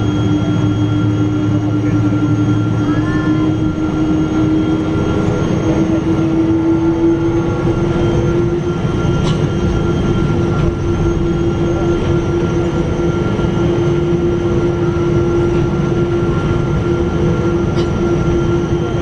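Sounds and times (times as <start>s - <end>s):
airplane cabin engine rumble: 0.0s - 19.0s.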